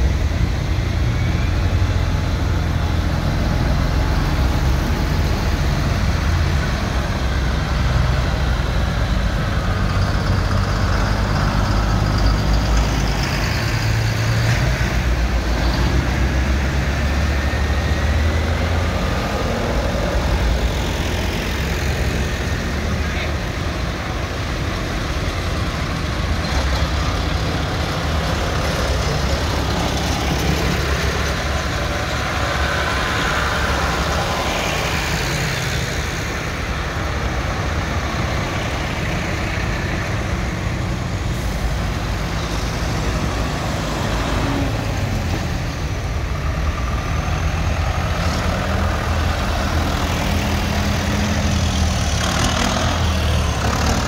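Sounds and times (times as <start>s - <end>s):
tractors driving past: 0.0s - 54.0s.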